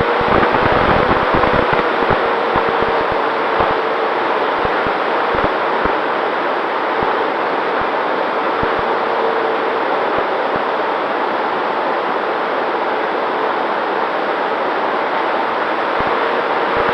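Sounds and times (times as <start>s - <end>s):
faint motor whine: 0.0s - 16.9s
wind rushing over camera: 0.0s - 16.9s.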